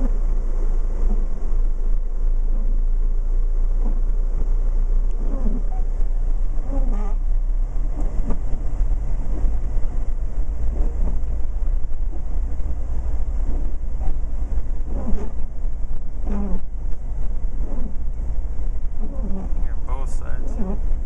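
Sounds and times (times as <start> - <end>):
car interior driving rumble: 0.0 - 21.0.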